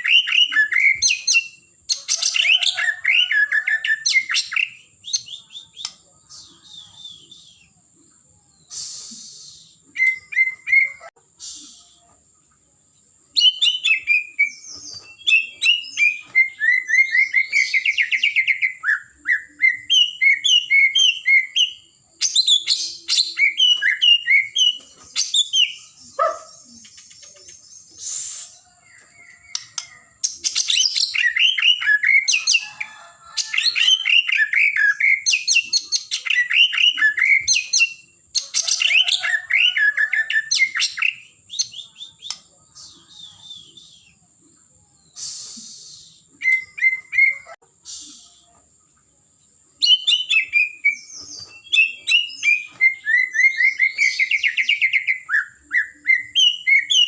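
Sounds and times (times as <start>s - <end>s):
songbird singing and trilling: 0.0s - 57.0s.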